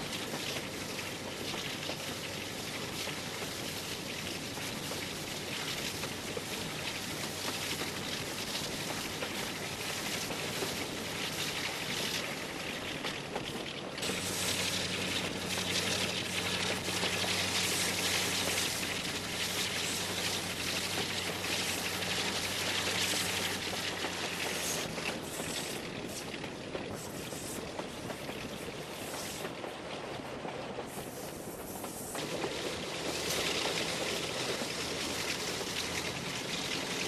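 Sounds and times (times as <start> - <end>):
locomotive diesel engine hum: 0.0 - 37.0.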